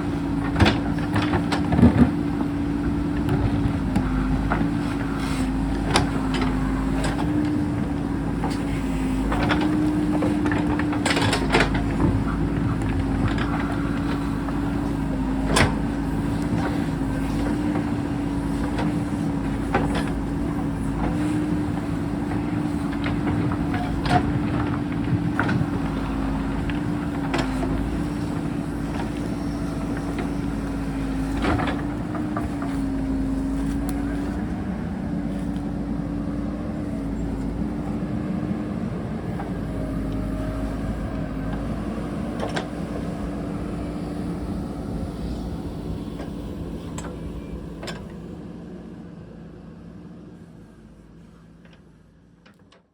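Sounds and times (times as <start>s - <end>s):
diesel engine running: 0.0s - 52.7s.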